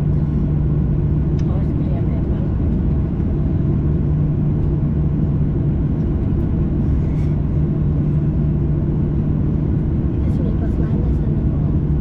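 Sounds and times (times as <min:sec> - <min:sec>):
jet engines idling in cabin: 0:00.0 - 0:12.0
steady hum: 0:00.0 - 0:12.0.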